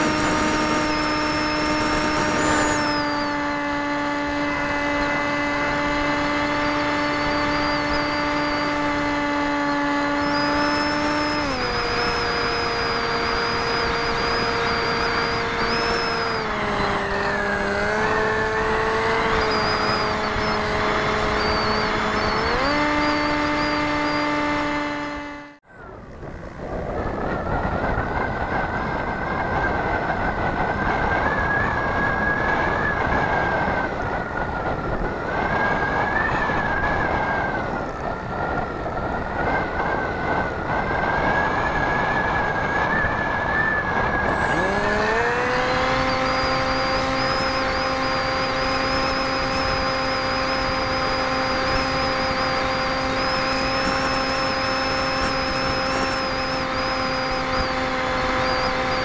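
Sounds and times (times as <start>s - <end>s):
airflow rushing with whistle: 0.0s - 24.7s, 25.6s - 59.0s
model plane motor whine: 0.0s - 59.0s.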